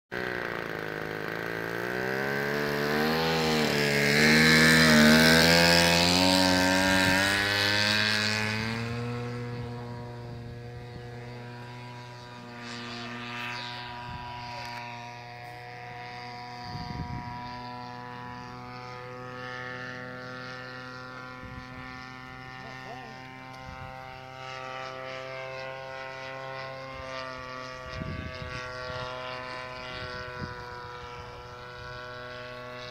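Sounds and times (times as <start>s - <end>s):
model airplane engine: 0.1s - 32.9s.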